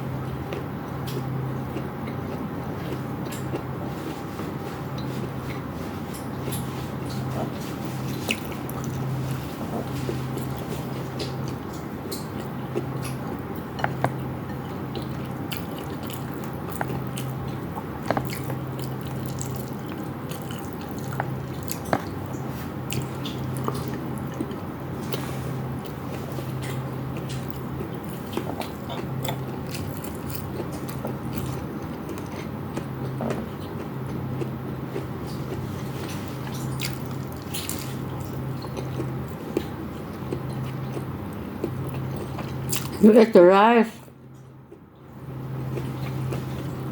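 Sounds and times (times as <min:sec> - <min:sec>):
person chewing and biting: 0:05.0 - 0:43.0.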